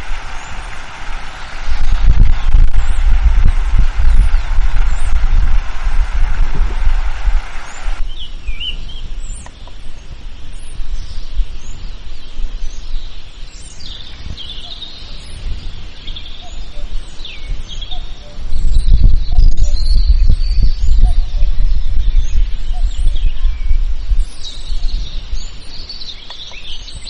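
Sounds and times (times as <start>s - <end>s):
low wind rumble: 0.0s - 27.0s
small birds chirping: 0.0s - 27.0s
steady hiss: 0.0s - 27.0s.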